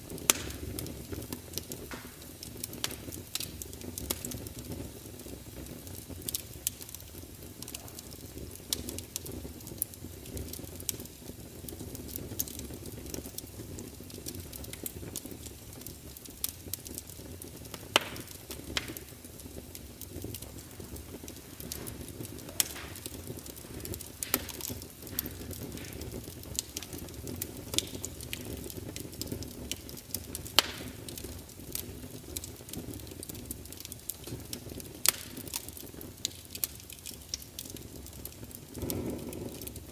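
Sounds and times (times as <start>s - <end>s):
flames rushing: 0.0s - 39.9s
wood fire crackling and popping: 0.0s - 39.9s.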